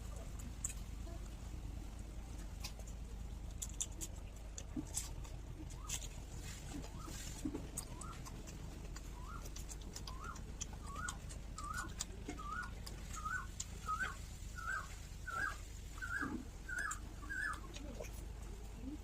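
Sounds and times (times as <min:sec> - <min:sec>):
eating clicks and smacks: 0:02.3 - 0:18.6.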